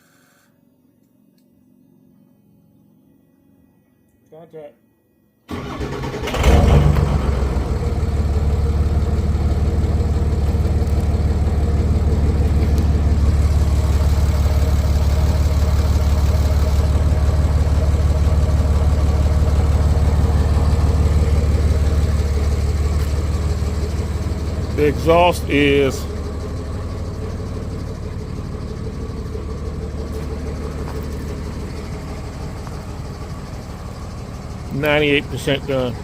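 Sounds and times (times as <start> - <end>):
truck engine idling: 5.5 - 36.0.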